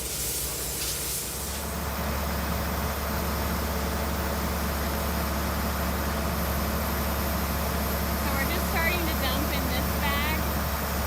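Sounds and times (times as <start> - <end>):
heavy vehicle engine humming: 0.0 - 11.0.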